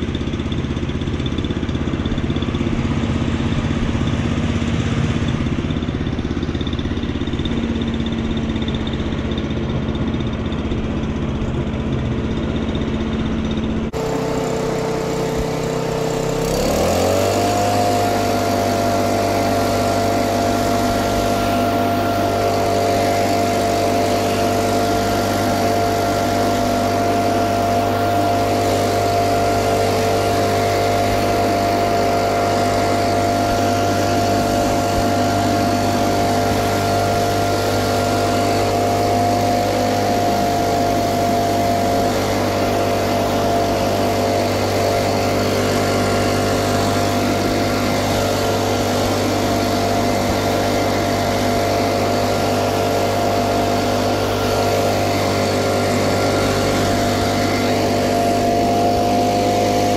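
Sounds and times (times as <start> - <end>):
leaf blower droning: 0.0 - 59.9.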